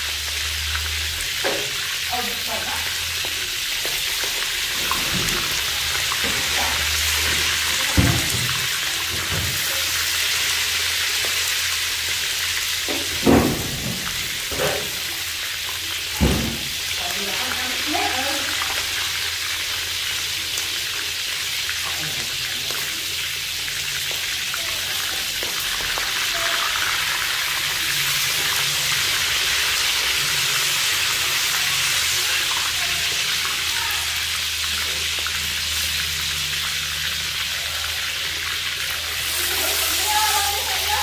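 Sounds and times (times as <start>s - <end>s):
oil sizzling in a wok: 0.0s - 41.0s.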